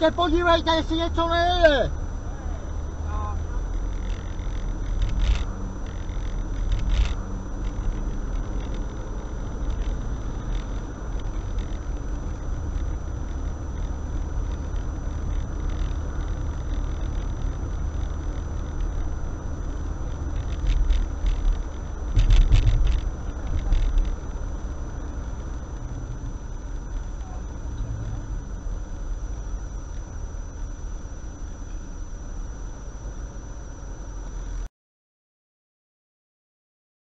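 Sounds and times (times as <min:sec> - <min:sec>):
car engine and road rumble: 0:00.0 - 0:34.7.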